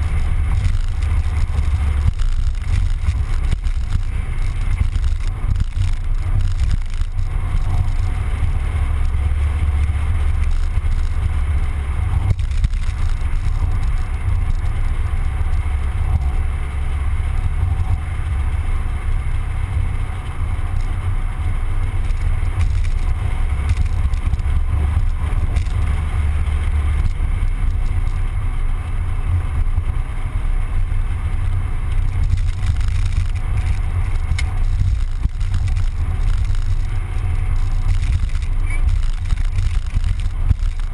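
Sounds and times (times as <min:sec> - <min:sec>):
car driving low rumble: 0:00.0 - 0:40.9.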